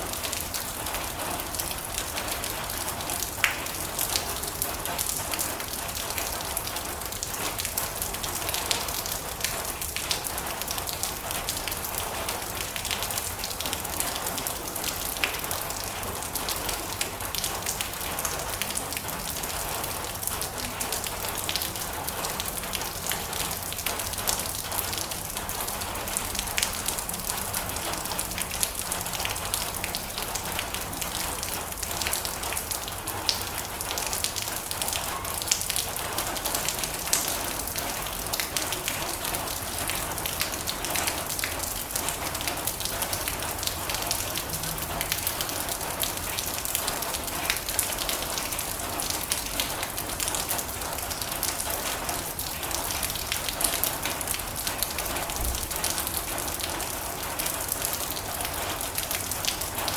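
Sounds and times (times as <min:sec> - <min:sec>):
rain drumming on a metal roof: 0:00.0 - 0:59.9.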